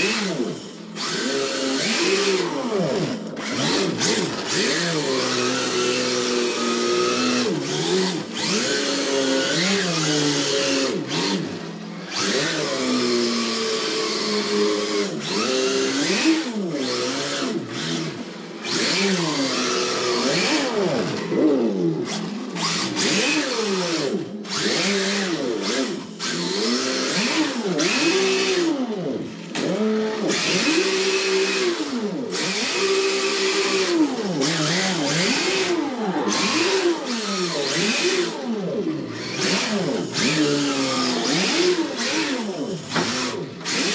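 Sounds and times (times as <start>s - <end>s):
simulated engine revving: 0.0s - 43.9s.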